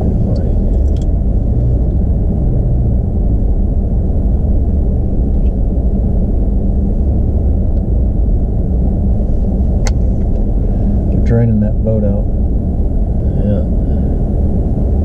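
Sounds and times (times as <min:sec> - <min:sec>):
tyres on road: 0:00.0 - 0:15.0
vehicle engine rumble: 0:00.0 - 0:15.0.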